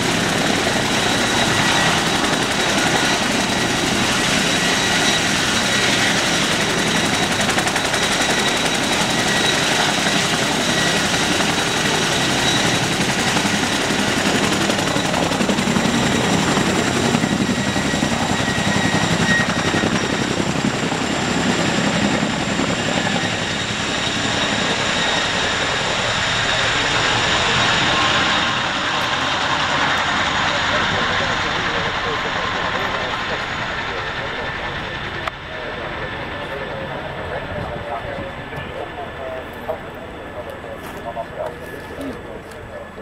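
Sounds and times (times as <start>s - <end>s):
helicopter rotor beat: 0.0s - 43.0s
high whine of turbine engines: 0.0s - 43.0s.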